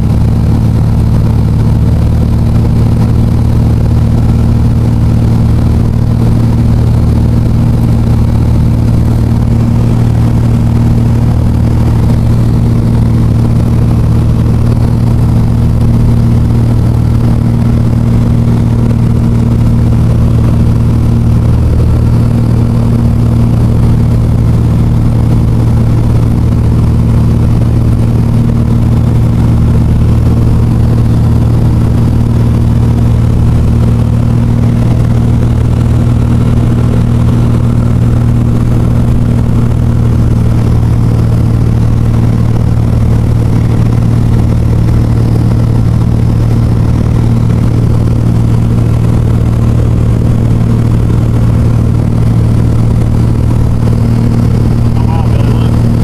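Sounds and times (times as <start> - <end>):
small aircraft engine drone: 0.0 - 56.0.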